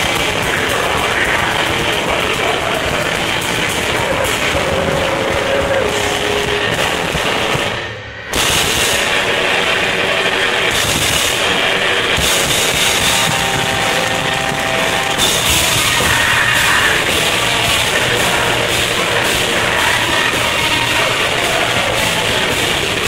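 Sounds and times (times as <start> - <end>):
distorted electric guitar: 0.0 - 23.0
drums: 0.0 - 23.0.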